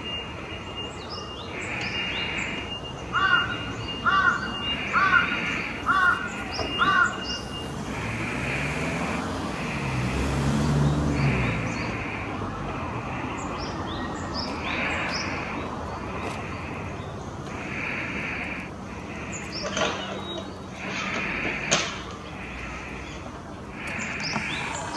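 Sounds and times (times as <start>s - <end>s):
small birds calling: 0.0s - 12.4s, 13.1s - 24.9s
car passing: 3.1s - 24.9s.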